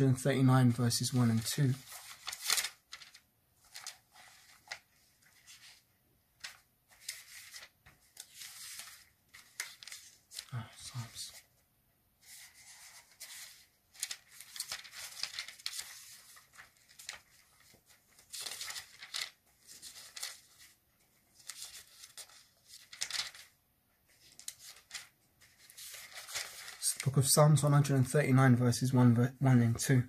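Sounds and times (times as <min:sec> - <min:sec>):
book pages rustling: 0:01.2 - 0:11.6, 0:12.2 - 0:27.3.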